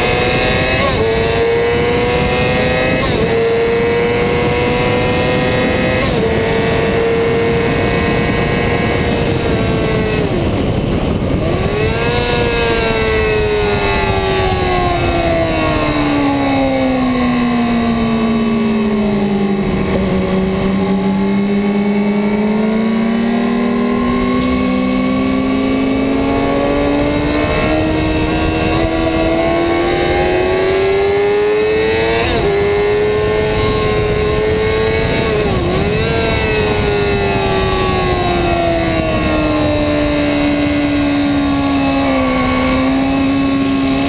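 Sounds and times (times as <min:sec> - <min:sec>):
motorcycle engine revving: 0:00.0 - 0:44.0
wind noise: 0:00.0 - 0:44.0.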